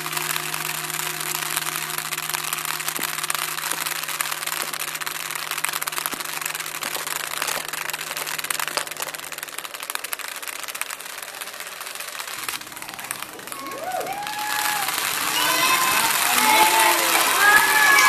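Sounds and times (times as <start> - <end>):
phones toppling and clattering: 0.0 - 18.0.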